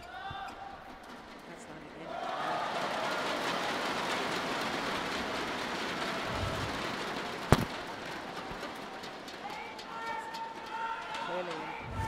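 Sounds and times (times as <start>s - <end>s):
murmur of arena crowd: 0.0s - 12.0s.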